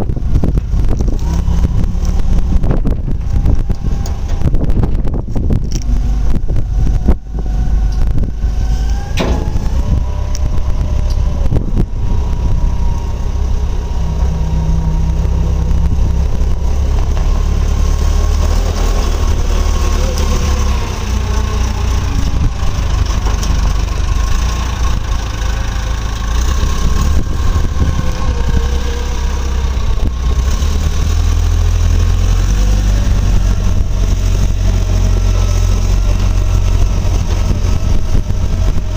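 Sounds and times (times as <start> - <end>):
wheel loader diesel engine: 0.0 - 38.9.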